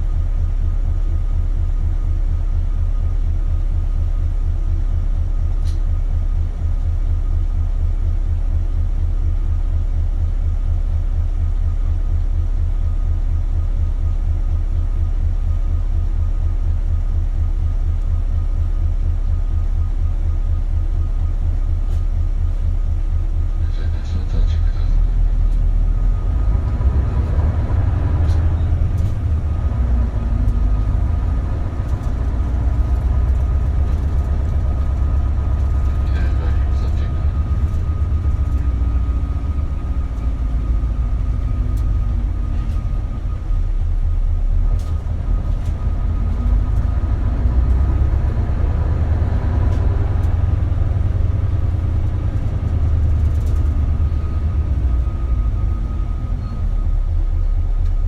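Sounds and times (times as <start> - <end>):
diesel bus engine: 0.0 - 58.0.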